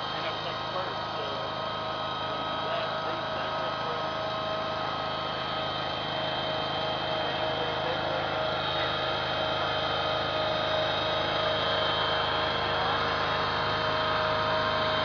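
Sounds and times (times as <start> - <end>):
constant whine: 0.0 - 15.0
engine running steadily: 0.0 - 15.0.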